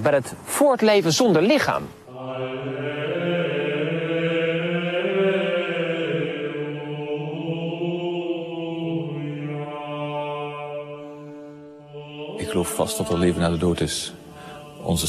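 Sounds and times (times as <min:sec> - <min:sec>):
low voices chanting: 0:02.0 - 0:15.0.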